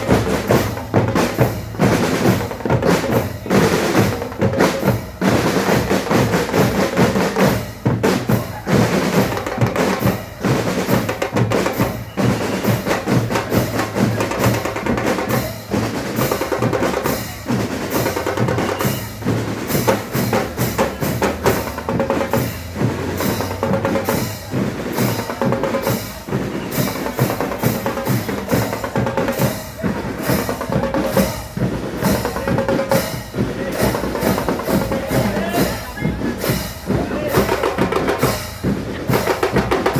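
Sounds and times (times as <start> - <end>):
band playing drum-driven music: 0.0 - 39.9.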